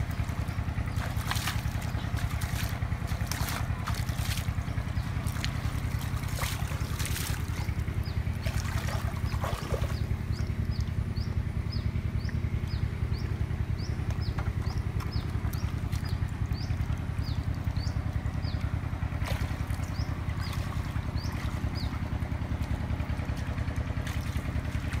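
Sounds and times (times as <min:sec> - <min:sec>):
water splashing: 0:00.0 - 0:11.1, 0:14.5 - 0:25.0
small engine running: 0:00.0 - 0:25.0.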